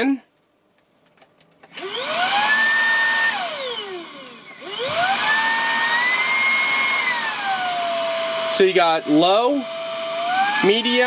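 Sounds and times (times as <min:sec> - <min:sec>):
vacuum motor whining: 0:01.7 - 0:11.0.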